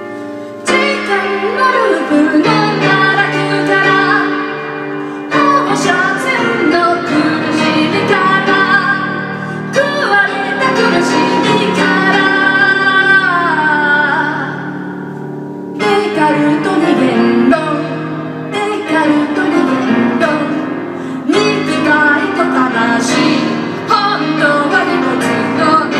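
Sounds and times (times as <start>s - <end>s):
grand piano: 0.0s - 25.9s
woman singing: 0.6s - 25.9s.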